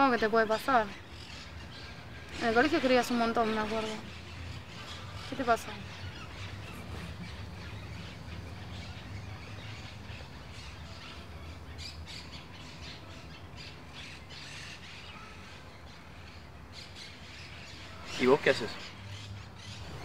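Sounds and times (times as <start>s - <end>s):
birds calling: 0.0s - 20.0s
steady low hum: 0.0s - 20.0s.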